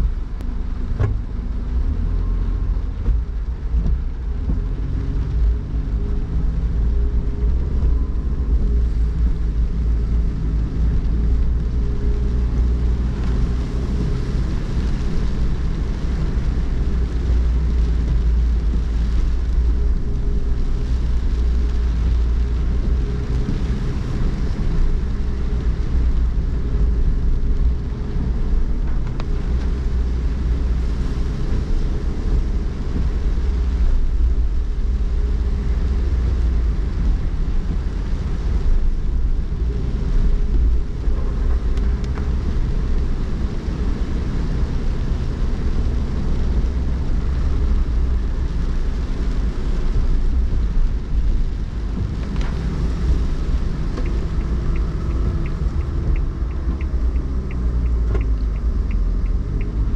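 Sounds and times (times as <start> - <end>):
car road and engine rumble: 0.0 - 59.9
rain: 0.0 - 59.9
tyres hissing on wet pavement: 0.5 - 59.9.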